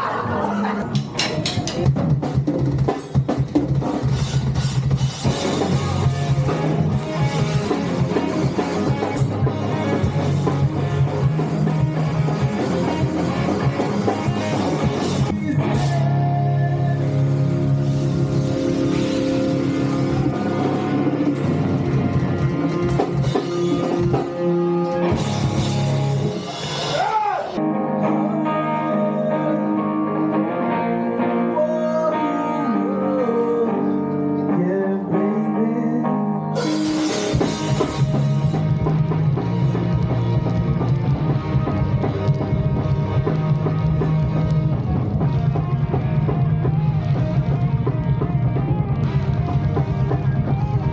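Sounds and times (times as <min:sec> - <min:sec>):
rock band playing: 0:00.0 - 0:50.9
sustained guitar chords: 0:05.0 - 0:50.9.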